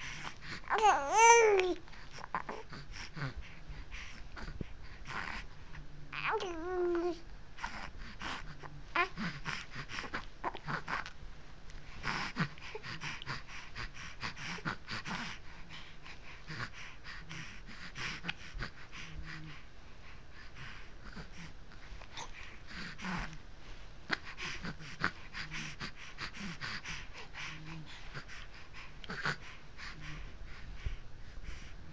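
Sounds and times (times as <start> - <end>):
baby breathing and snorting: 0.0 - 11.2, 11.8 - 31.9.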